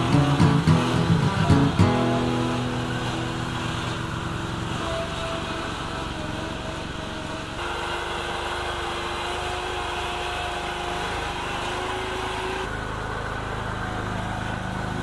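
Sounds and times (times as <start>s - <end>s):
small engine running under load: 0.0s - 15.0s.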